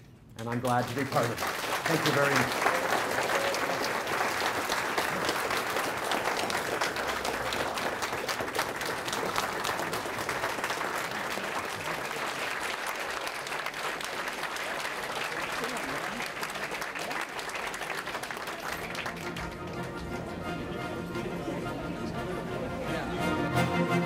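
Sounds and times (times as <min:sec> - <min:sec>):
audience applauding: 0:00.4 - 0:20.8.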